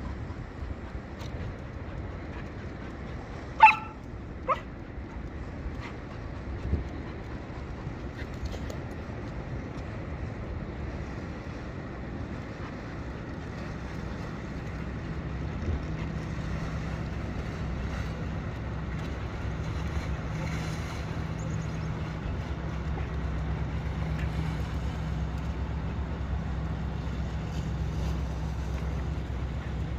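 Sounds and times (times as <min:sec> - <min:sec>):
boat diesel engine humming: 0:00.0 - 0:29.9
water noise: 0:00.0 - 0:29.9
wind: 0:00.0 - 0:29.9.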